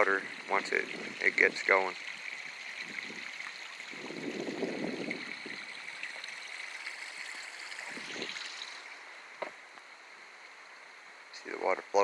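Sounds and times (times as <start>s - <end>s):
water flowing through a ditch: 0.0s - 11.8s.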